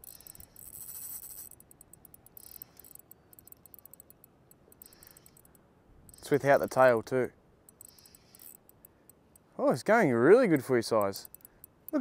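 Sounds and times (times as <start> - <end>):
fishing reel ticking: 0.0 - 12.0.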